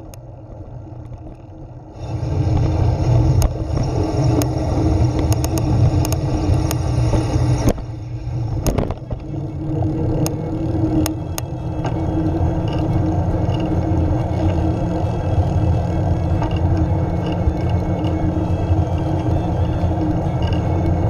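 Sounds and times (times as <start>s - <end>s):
wind and road rumble: 0.0s - 21.0s.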